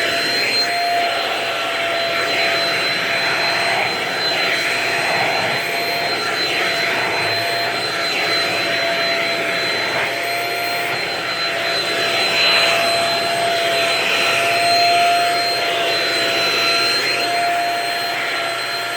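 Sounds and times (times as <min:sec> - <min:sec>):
vacuum cleaner running: 0:00.0 - 0:18.9.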